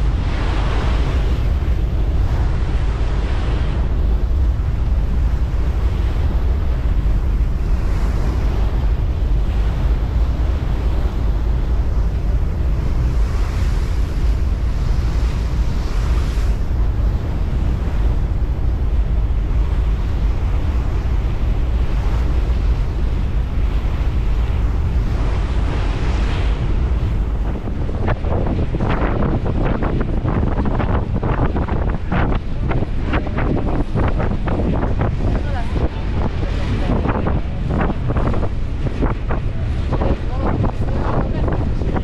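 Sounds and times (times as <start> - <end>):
heavy low rumble: 0.0 - 42.0
rush of water: 0.0 - 42.0
wind buffeting microphone: 0.0 - 42.0.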